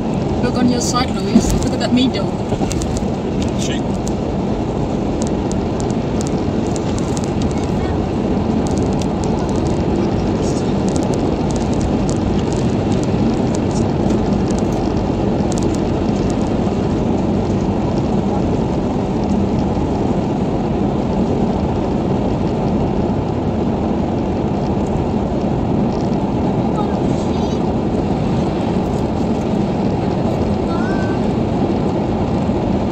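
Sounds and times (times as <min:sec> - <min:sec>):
road and tyre noise inside car: 0:00.0 - 0:32.9.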